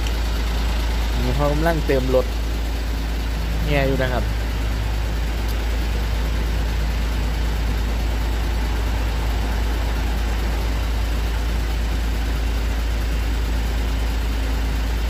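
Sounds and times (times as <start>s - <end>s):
engine idling drone: 0.0s - 15.0s.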